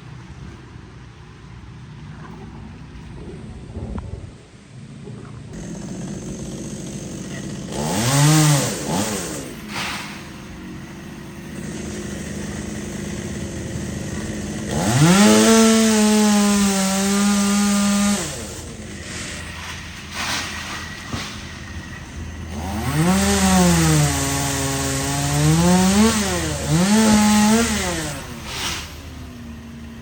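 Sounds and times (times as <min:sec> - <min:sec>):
chainsaw idling and revving: 0:05.6 - 0:30.0.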